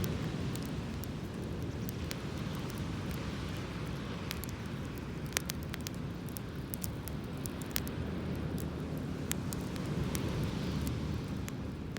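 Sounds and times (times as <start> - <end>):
campfire crackling and popping: 0.0 - 11.9.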